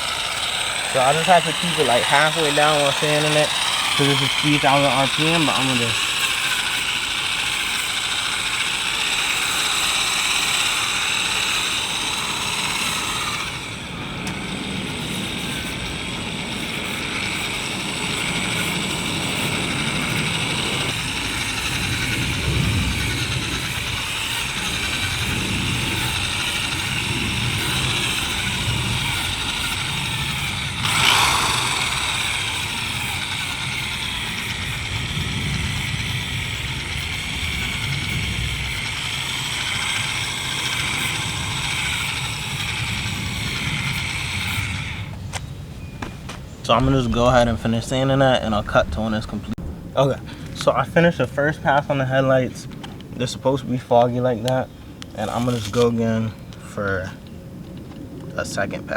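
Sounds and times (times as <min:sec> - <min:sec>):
electric drill sanding plastic: 0:00.0 - 0:45.3, 0:46.0 - 0:49.5, 0:55.1 - 0:55.9.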